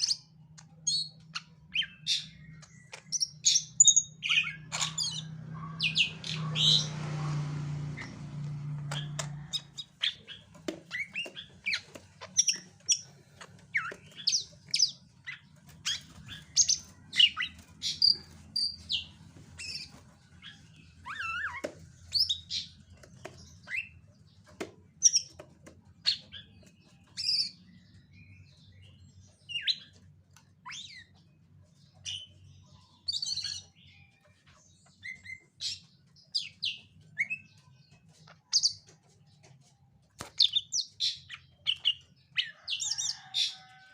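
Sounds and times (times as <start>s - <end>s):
bird chirping and calling: 0.0s - 43.8s.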